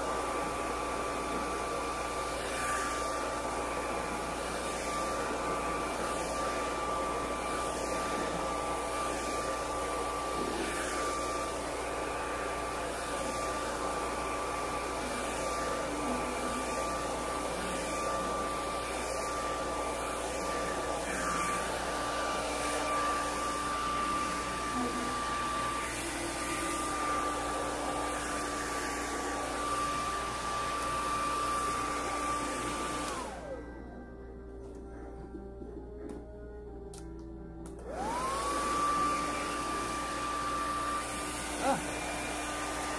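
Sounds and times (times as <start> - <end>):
hair dryer motor spinning down: 0.0 - 33.7, 37.7 - 42.9
hair dryer blowing: 0.0 - 33.8, 37.7 - 42.9.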